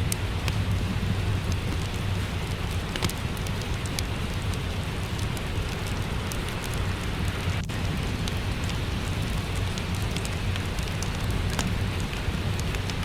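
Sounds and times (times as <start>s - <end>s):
low rumble: 0.0s - 13.0s
rain hiss: 0.0s - 13.0s
wood fire crackling: 0.0s - 13.0s.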